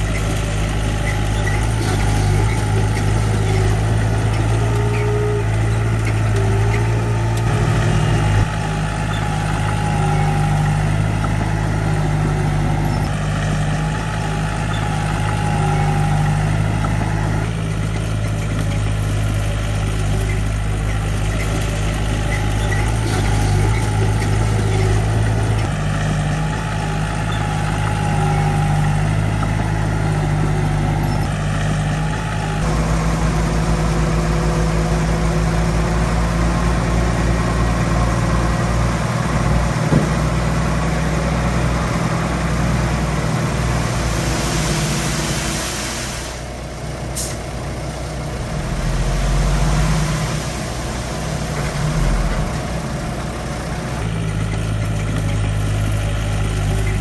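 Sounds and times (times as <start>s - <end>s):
diesel engine low rumble: 0.0s - 57.0s.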